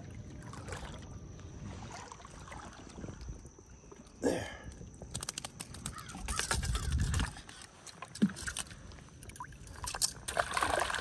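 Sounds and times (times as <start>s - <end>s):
shallow water sloshing: 0.0s - 11.0s.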